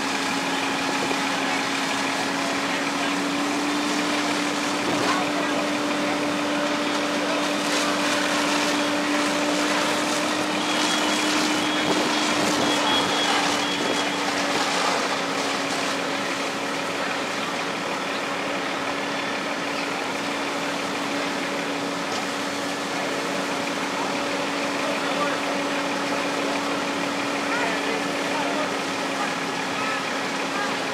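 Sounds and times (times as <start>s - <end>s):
fire engine drone: 0.0s - 30.9s
rushing water noise: 0.0s - 30.9s.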